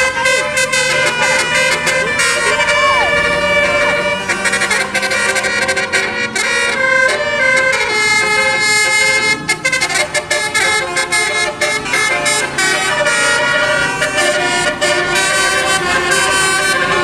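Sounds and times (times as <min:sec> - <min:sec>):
musical bus air horn tune: 0:00.0 - 0:17.0.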